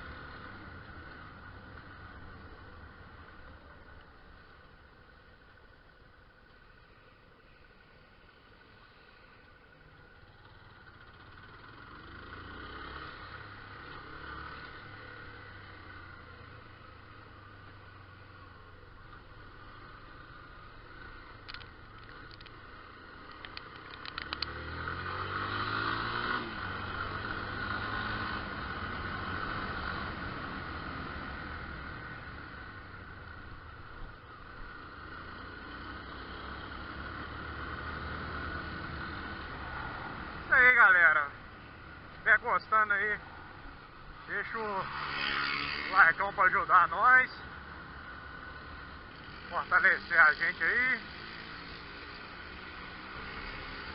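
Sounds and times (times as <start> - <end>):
motorcycle engine running: 0.0 - 46.5
road and wind noise: 0.0 - 53.9.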